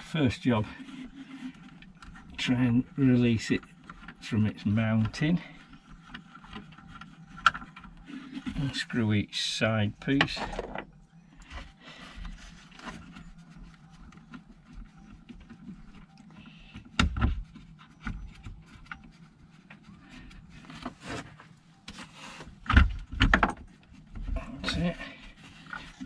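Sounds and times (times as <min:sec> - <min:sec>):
small clicks scrapes and knocks: 0:00.0 - 0:09.2, 0:10.0 - 0:26.0.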